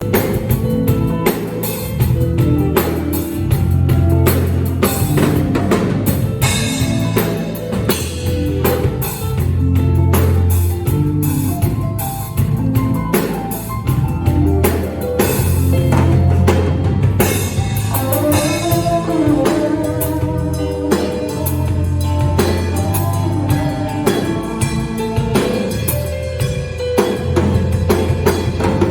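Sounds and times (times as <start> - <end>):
drum kit hits: 0.0 - 28.9
long held bass notes: 0.0 - 28.9.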